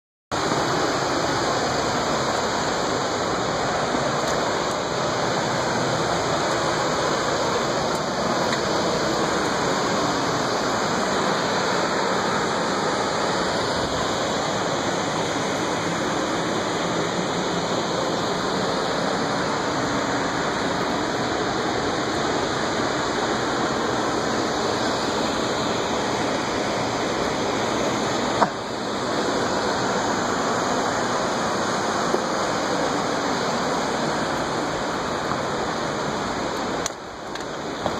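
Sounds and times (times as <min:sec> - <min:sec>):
white water rushing: 0:00.3 - 0:37.9.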